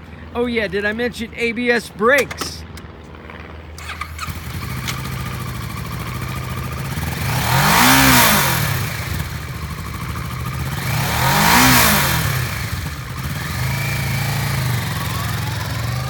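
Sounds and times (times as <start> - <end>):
motorcycle engine starting and revving: 2.2 - 16.0.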